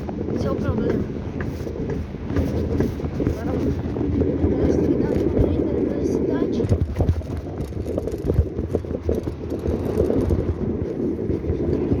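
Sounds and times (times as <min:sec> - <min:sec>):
bicycle knocks and rattles: 0:00.0 - 0:12.0
wind buffeting microphone: 0:00.0 - 0:12.0.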